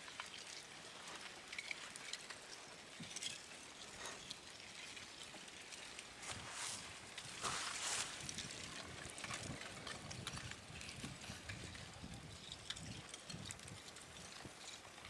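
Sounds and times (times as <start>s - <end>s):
lava crust crackling and clinking: 0.0s - 15.0s
rock blocks tumbling: 0.0s - 15.0s.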